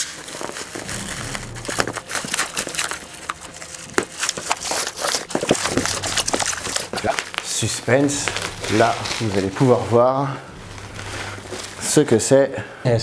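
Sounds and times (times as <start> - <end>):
bubble wrap crinkling: 0.0 - 12.3.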